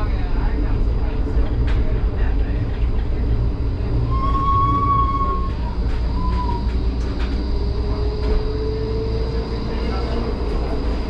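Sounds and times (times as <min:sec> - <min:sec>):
tram running rumble: 0:00.0 - 0:11.0.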